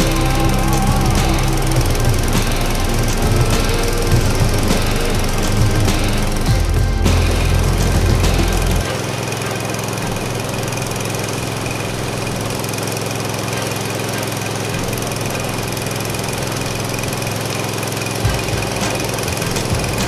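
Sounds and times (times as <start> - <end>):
small gasoline engine running: 0.0 - 20.0.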